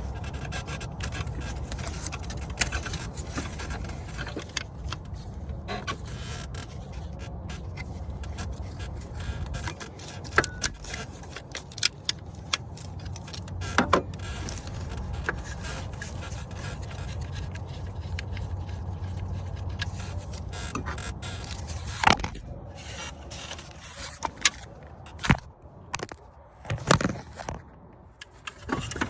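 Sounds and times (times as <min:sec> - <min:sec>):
metallic clinks and scrapes: 0:00.0 - 0:27.6.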